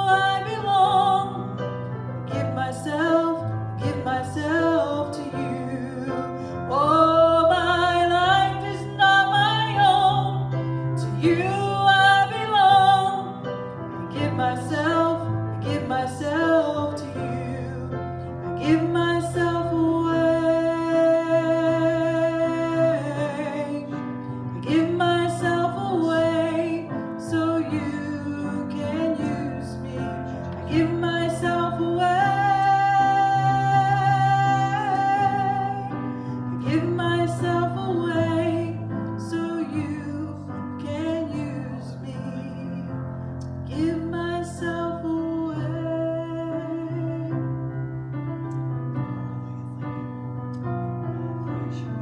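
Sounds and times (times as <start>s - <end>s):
person singing: 2.3s - 47.6s.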